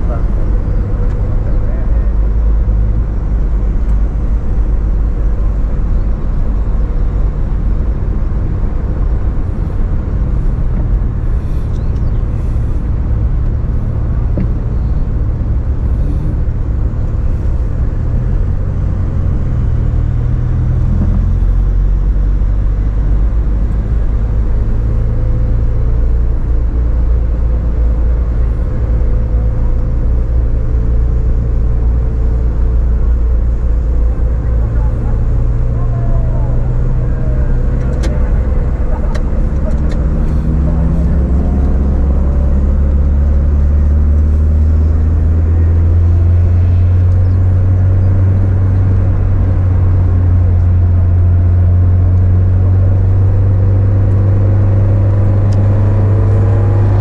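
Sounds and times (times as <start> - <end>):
car engine running: 0.0 - 57.0
road rumble: 0.0 - 57.0.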